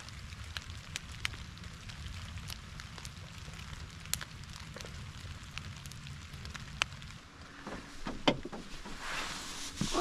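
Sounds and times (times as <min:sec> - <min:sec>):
campfire crackling and popping: 0:00.0 - 0:09.1
light rain: 0:00.0 - 0:10.0
low steady rumble: 0:00.0 - 0:10.0.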